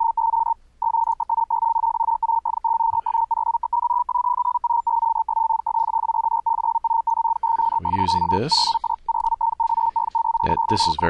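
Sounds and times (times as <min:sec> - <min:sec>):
morse code beeps: 0:00.0 - 0:11.0.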